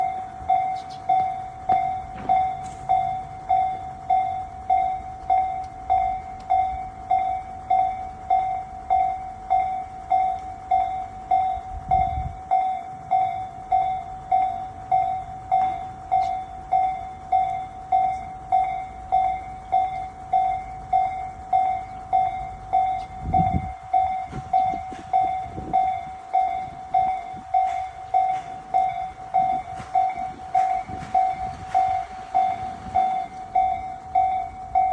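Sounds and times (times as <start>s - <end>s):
level crossing warning bell: 0.0s - 34.9s.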